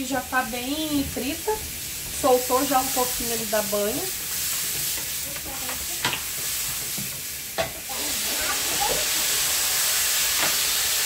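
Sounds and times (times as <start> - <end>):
food sizzling in lard: 0.0 - 11.0.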